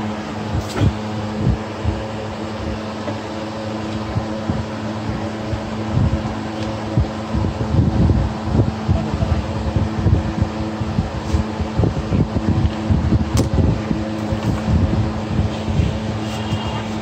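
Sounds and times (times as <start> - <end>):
fan-like machine hum: 0.0 - 17.0.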